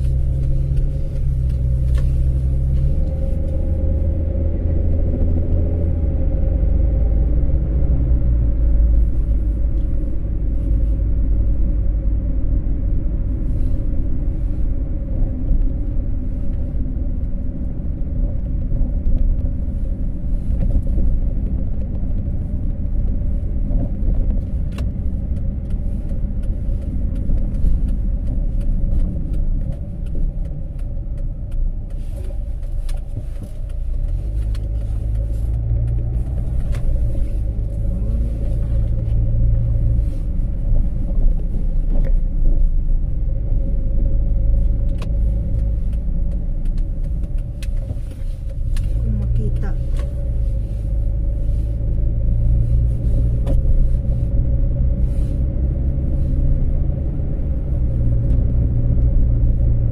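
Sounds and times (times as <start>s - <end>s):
car engine and road noise: 0.0s - 59.9s
low engine hum: 0.0s - 59.9s.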